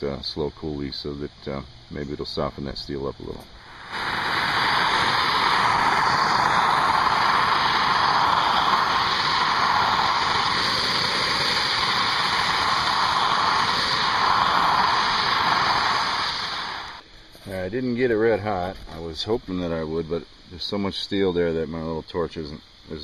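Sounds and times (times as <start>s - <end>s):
propane torch hissing: 0.0s - 21.6s.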